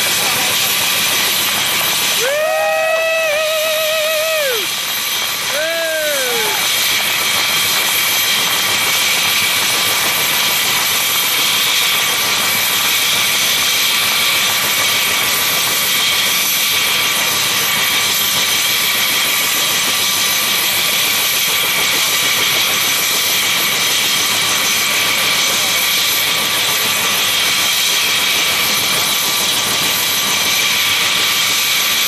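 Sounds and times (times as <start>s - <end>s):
helicopter rotor and engine rush: 0.0s - 32.0s
high turbine whine: 0.0s - 32.0s.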